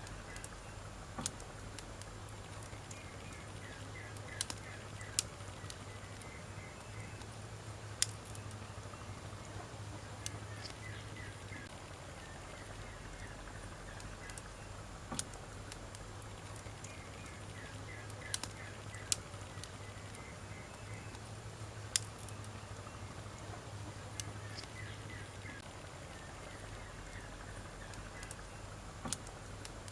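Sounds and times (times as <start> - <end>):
campfire crackling and popping: 0.0 - 29.9.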